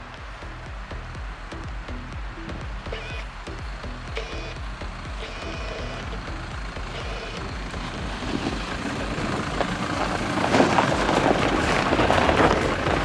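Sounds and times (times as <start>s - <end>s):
diesel engine under load: 0.0s - 13.0s
tyres crunching over snow and stones: 0.0s - 13.0s.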